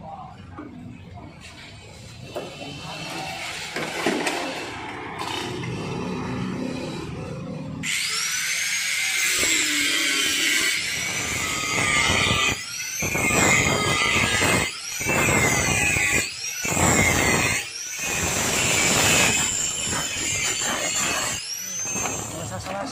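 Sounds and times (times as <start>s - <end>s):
angle grinder grinding steel: 1.8s - 22.9s.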